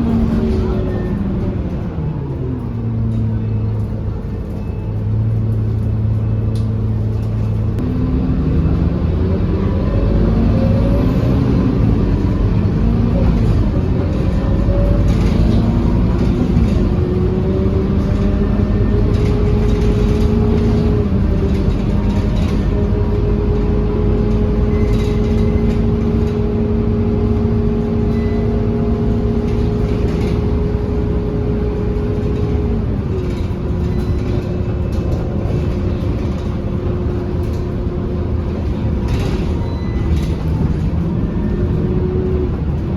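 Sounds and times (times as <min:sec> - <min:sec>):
bus diesel engine accelerating: 0:00.0 - 0:42.9.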